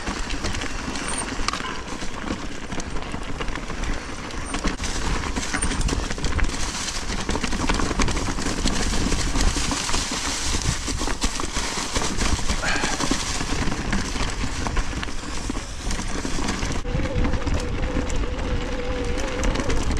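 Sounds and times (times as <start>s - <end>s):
bike rattling over rough trail: 0.0s - 19.9s.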